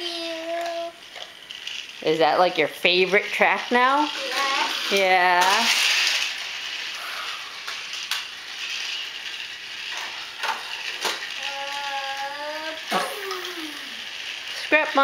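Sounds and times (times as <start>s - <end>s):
toy train motor whirring and rattling: 0.0s - 15.0s.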